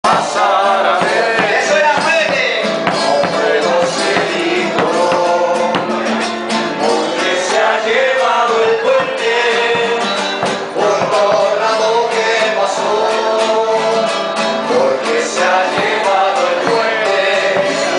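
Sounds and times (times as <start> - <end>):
folk band playing a waltz: 0.1 - 17.9.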